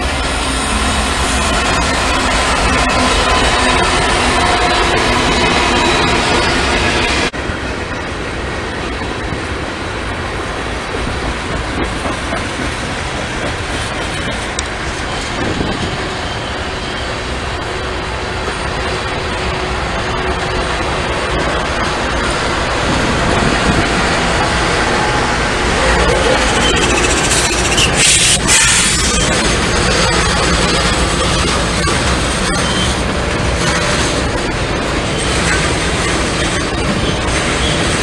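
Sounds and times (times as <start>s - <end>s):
train wheels rolling on rails: 0.0s - 38.0s.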